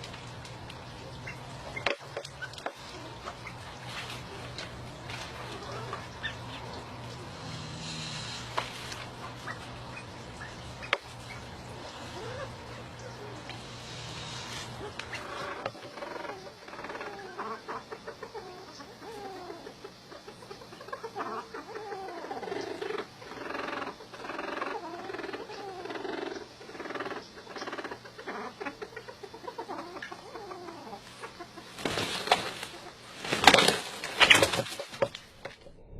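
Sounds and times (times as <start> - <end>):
fowl clucking and calling: 1.1 - 33.0.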